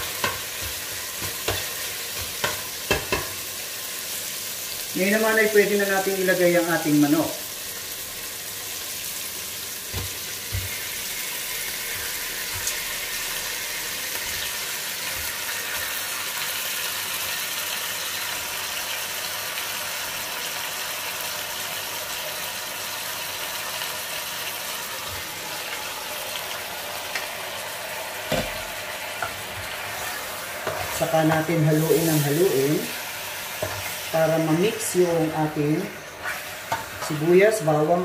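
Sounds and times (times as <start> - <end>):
chicken sizzling in hot oil: 0.0 - 38.0.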